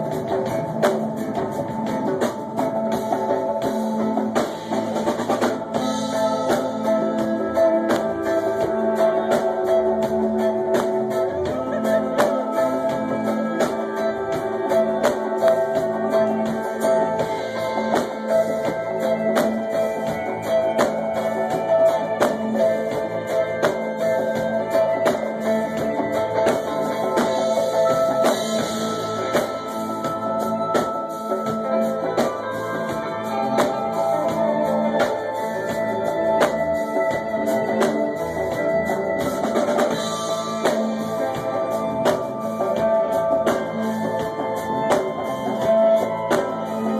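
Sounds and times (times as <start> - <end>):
drum kit beat: 0.0 - 46.9
electric guitars: 0.0 - 46.9
keyboard: 0.0 - 46.9.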